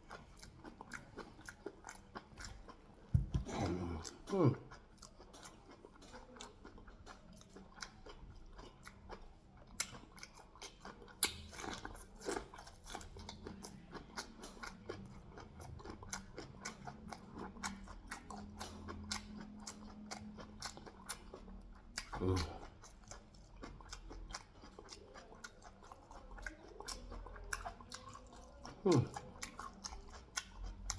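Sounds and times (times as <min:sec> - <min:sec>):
person chewing close to microphone: 0:00.0 - 0:30.9.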